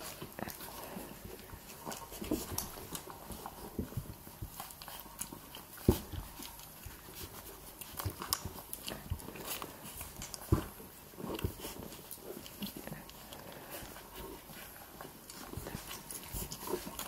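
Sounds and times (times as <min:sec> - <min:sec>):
puppies sucking and smacking: 0:00.0 - 0:17.0.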